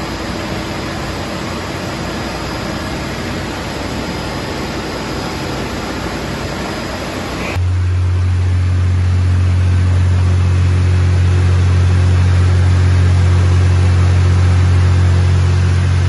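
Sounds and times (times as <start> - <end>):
loud low motor hum: 0.0 - 16.0.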